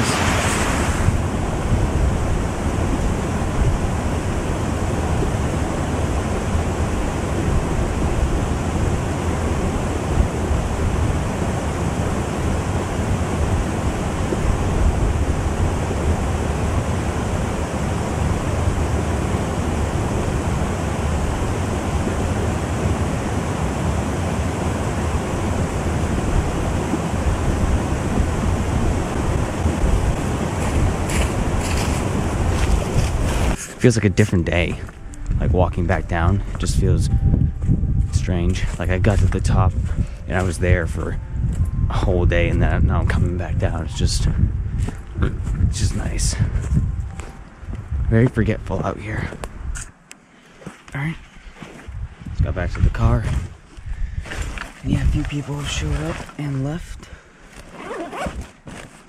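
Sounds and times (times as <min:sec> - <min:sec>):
wind blowing across microphone: 0:00.0 - 0:50.1, 0:50.9 - 0:58.8.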